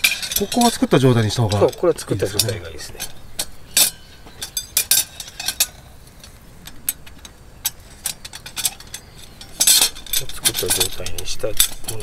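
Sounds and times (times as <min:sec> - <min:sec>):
metal rods clicking and clinking: 0:00.0 - 0:12.0.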